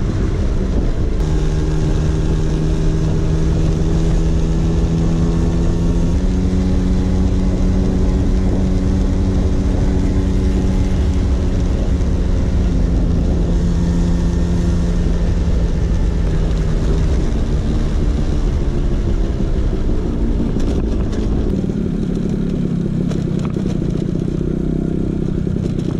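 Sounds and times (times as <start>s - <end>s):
heavy low rumble: 0.0s - 25.9s
two-stroke scooter engine running: 0.0s - 25.9s.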